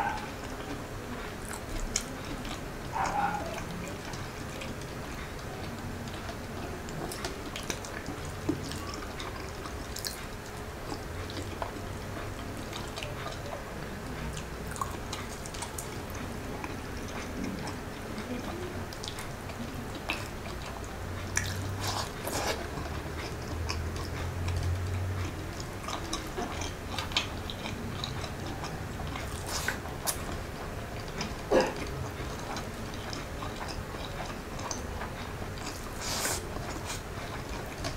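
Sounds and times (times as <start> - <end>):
man chewing food: 0.0 - 37.9.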